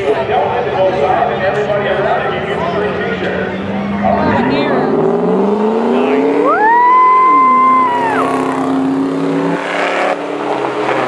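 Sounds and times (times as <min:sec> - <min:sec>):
truck engines at full throttle: 0:00.0 - 0:11.0.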